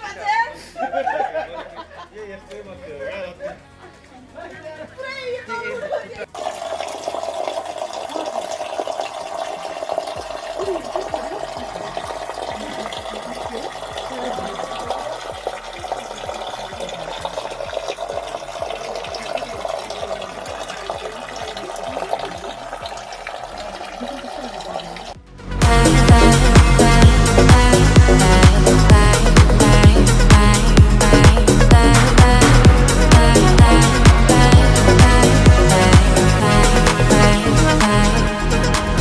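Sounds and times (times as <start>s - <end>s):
running water rushing: 6.3s - 39.0s.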